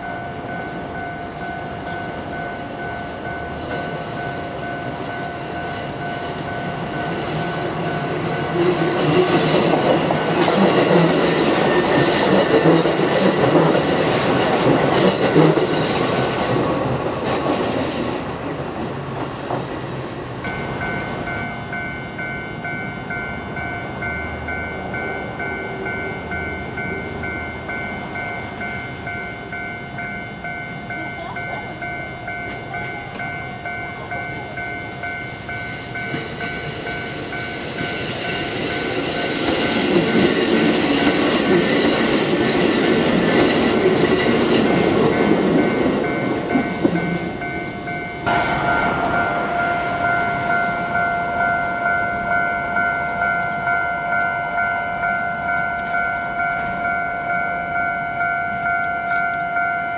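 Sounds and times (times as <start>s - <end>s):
bell ringing steadily: 0.0s - 16.6s, 20.5s - 59.9s
electric train running past: 0.0s - 59.9s.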